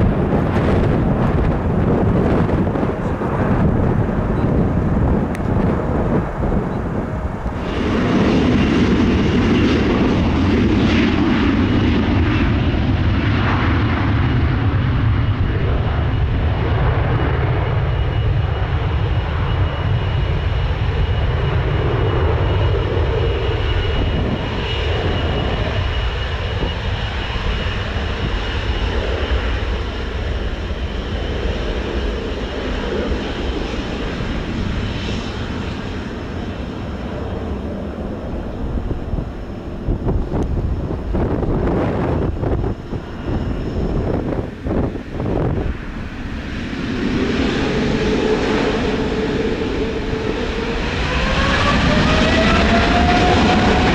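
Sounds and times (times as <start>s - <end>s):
jet engine whine: 0.0s - 53.9s
jet engines rumbling: 0.0s - 53.9s.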